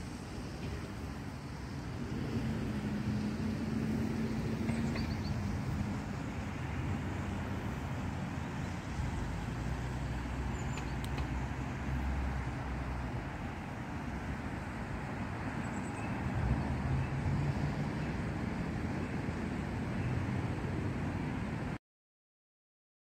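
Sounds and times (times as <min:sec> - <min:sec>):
road traffic rumble: 0:00.0 - 0:21.8.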